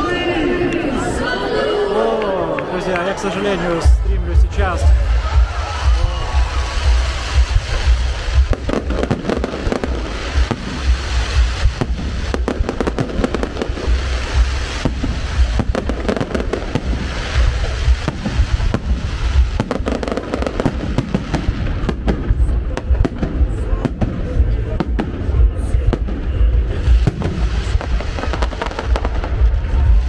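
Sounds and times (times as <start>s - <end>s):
fireworks bangs and crackles: 2.9s - 30.0s
low rumble: 3.8s - 30.0s.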